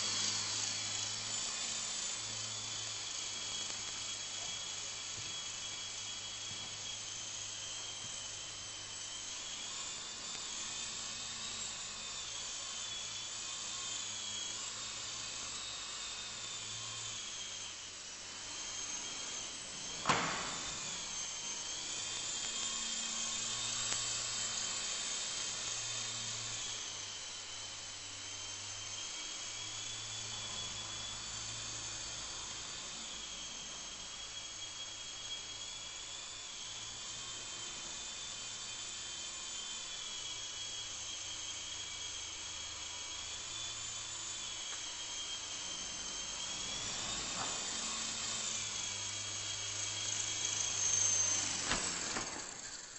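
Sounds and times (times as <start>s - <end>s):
rc helicopter rotor whine: 0.0s - 52.9s.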